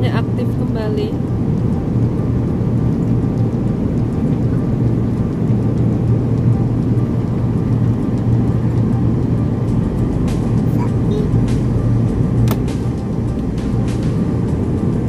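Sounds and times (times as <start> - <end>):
jet cabin engine rumble: 0.0 - 15.0.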